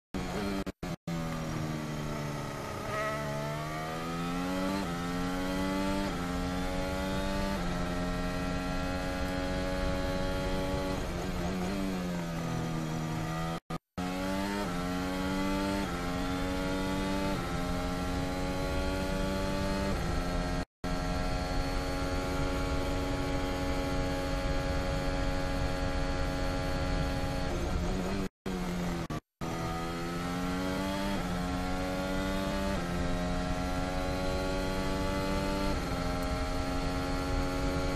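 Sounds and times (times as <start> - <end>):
racing car engine: 0.2 - 37.9.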